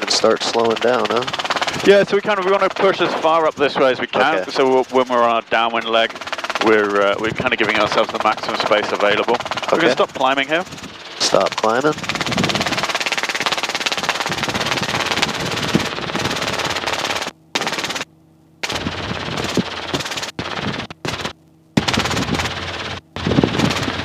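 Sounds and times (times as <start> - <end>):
helicopter engine and rotor noise: 0.0 - 24.0.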